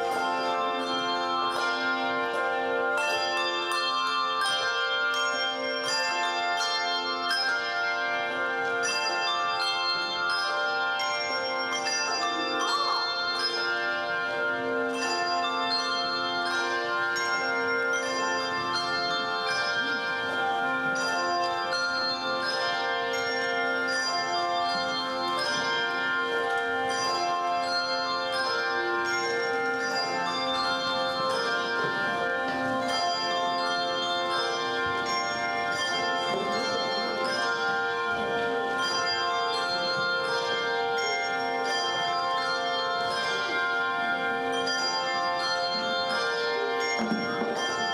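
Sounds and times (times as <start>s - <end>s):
tuned bells ringing: 0.0s - 47.9s.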